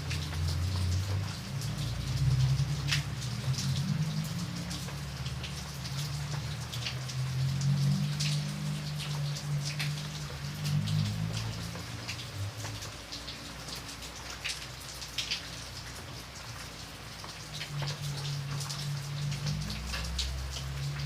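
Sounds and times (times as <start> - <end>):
raindrops ticking on a surface: 0.0 - 21.0
steady rain: 0.0 - 21.0.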